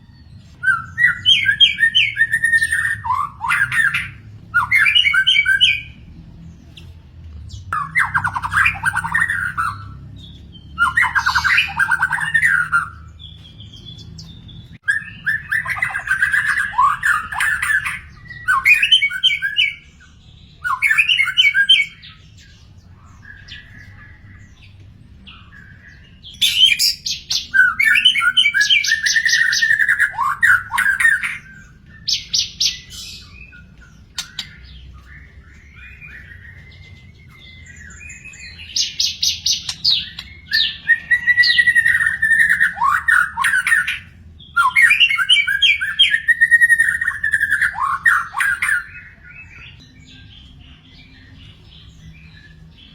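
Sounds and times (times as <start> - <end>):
songbird whistling and trilling: 0.0 - 6.8, 7.4 - 52.9.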